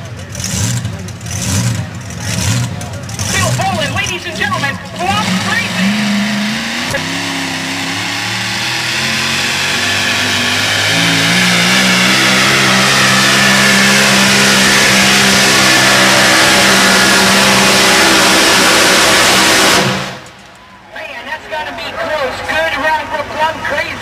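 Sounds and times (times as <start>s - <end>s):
truck engine revving: 0.0s - 20.6s.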